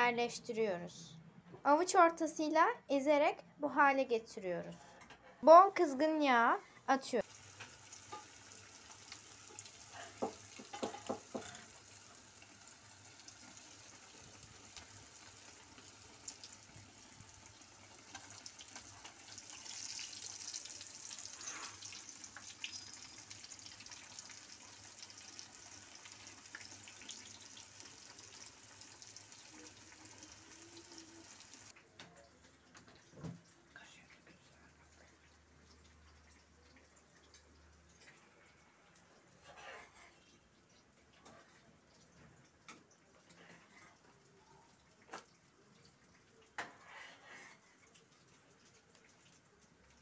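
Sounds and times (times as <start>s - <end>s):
patties frying in hot oil: 7.1s - 50.0s.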